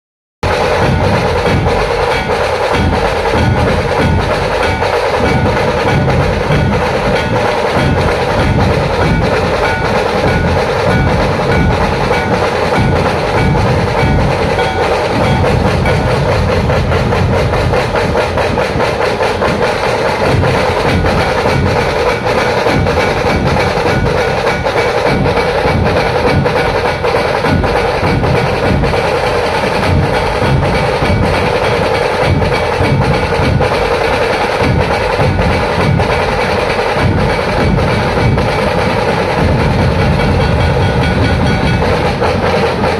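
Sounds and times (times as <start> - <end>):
fast drum-led music: 0.4 - 42.9.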